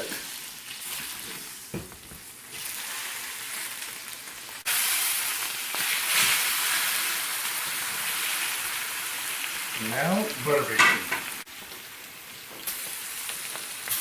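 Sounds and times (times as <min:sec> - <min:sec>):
meat sizzling in a skillet: 0:00.0 - 0:14.0.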